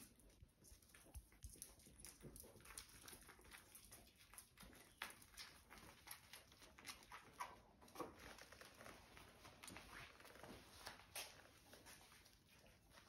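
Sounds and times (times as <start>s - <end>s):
paws pattering on floor: 0.0s - 13.0s.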